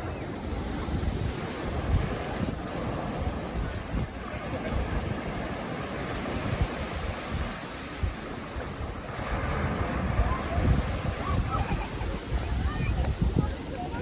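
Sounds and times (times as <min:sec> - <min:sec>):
waves breaking on a beach: 0:00.0 - 0:14.0
wind rumbling on microphone: 0:00.0 - 0:14.0.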